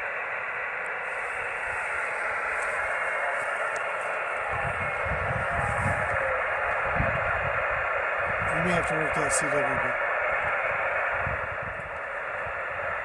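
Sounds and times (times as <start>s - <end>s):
radio receiver hiss: 0.0s - 13.0s
low rumbles: 1.2s - 13.0s.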